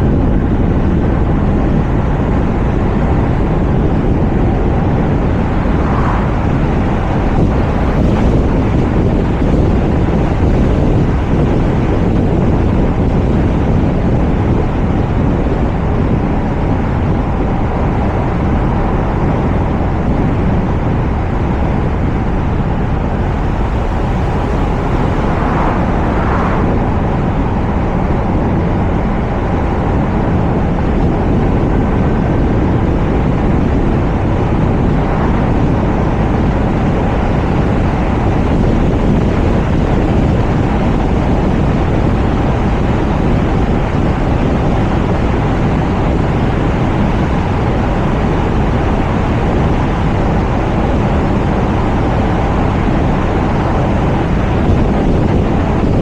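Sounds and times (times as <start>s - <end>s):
wind noise on microphone: 0.0s - 56.0s
road and tyre noise: 0.4s - 56.0s.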